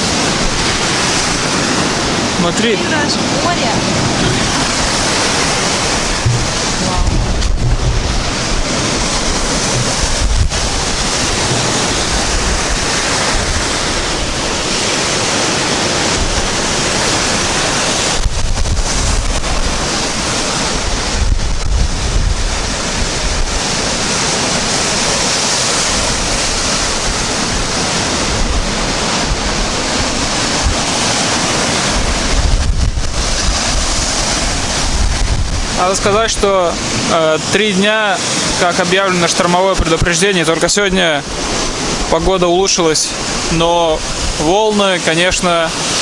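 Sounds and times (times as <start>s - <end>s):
wind buffeting microphone: 0.0s - 44.8s
surf washing up beach: 0.0s - 46.0s.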